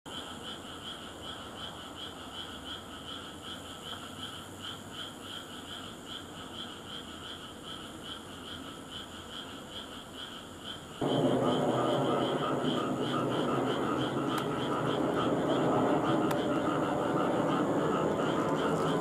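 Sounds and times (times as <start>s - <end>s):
frogs calling in chorus: 0.1s - 19.0s.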